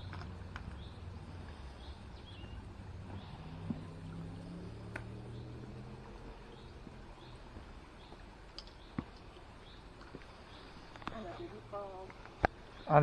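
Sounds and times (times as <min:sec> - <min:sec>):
low steady drone: 0:00.0 - 0:12.1.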